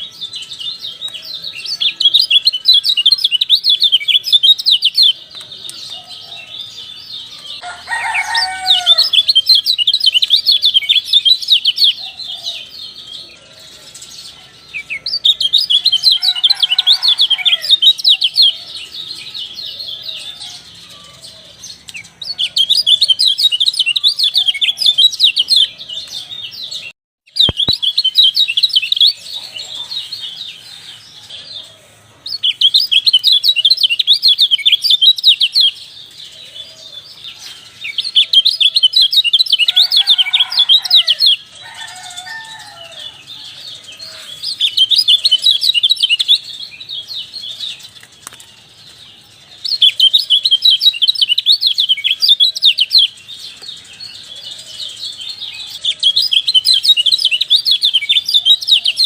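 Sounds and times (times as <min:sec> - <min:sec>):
bird high trilling song: 0:00.0 - 0:59.0.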